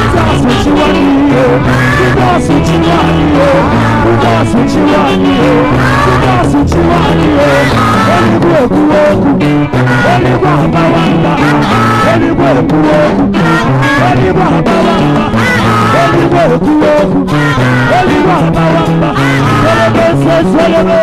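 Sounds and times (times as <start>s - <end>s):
band playing chords with a beat: 0.0s - 21.0s
person singing: 0.0s - 21.0s.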